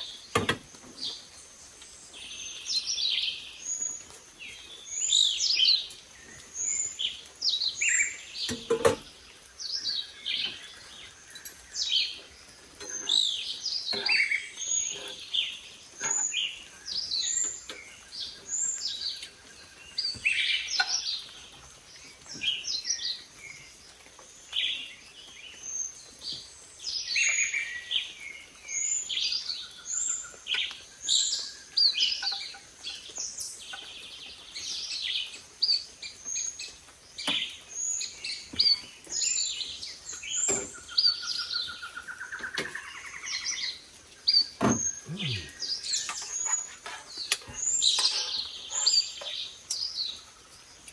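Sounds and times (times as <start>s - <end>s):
birds chirping and calling: 0.0s - 50.9s.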